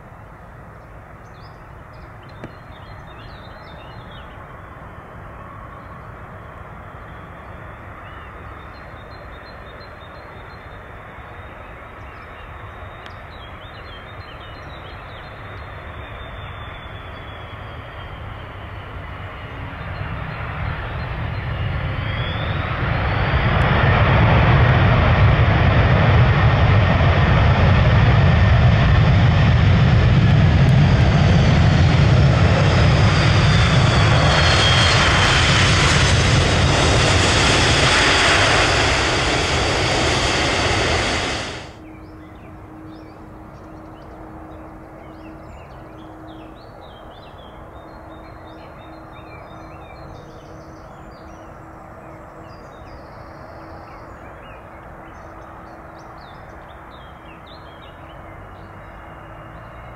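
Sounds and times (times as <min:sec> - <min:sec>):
jet airliner engines: 0:00.0 - 0:59.9.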